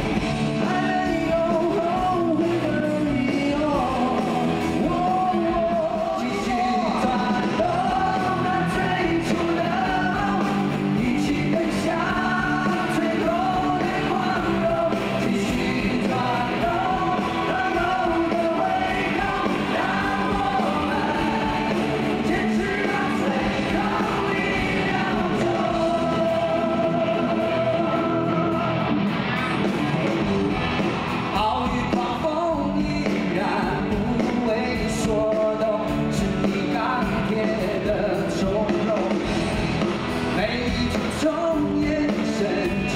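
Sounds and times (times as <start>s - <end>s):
man singing: 0.0s - 28.9s, 31.2s - 39.6s, 40.2s - 42.9s
live rock band: 0.0s - 42.9s.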